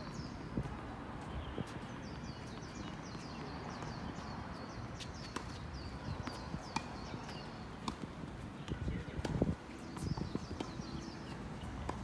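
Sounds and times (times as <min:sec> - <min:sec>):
shoes squeaking on court: 0:00.0 - 0:12.0.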